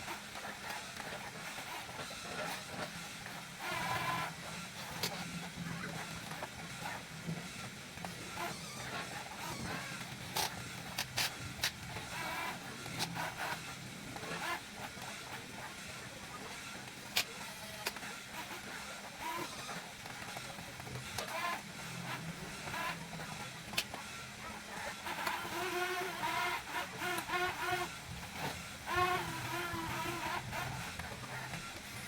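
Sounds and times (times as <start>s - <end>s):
electric motors whining: 0.0s - 32.0s.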